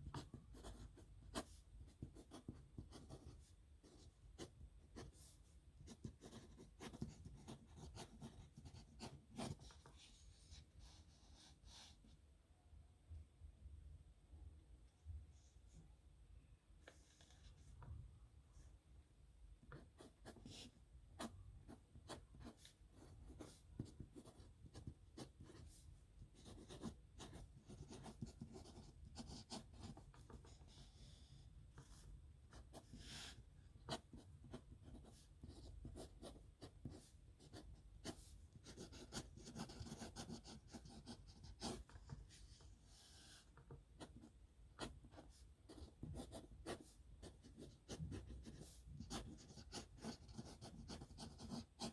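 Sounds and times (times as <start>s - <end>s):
pen scratching on paper: 0.0s - 5.2s, 5.8s - 11.9s, 19.7s - 25.7s, 26.3s - 51.9s.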